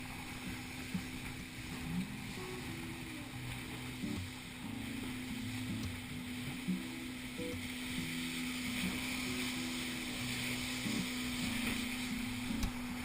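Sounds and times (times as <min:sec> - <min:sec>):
boat motor humming: 0:00.0 - 0:13.0
wind and water hissing: 0:00.0 - 0:13.0.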